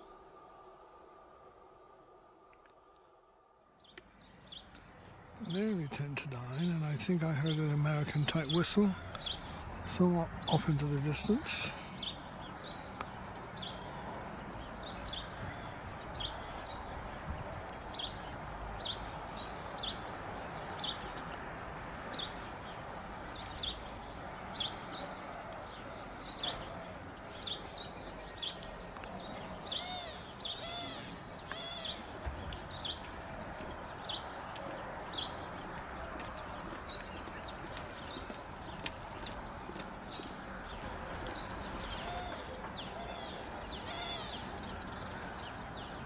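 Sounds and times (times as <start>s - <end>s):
small songbirds chirping: 0.0s - 46.0s.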